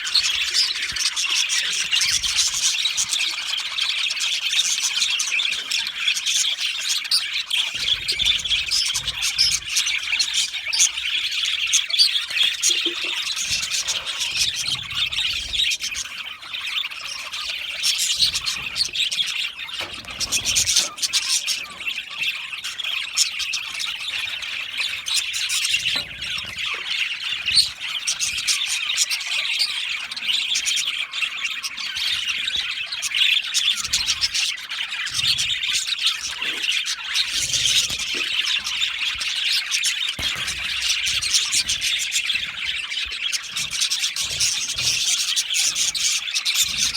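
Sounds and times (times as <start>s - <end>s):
bird squawks: 0.0s - 46.9s
budgerigars chirping: 0.0s - 46.9s.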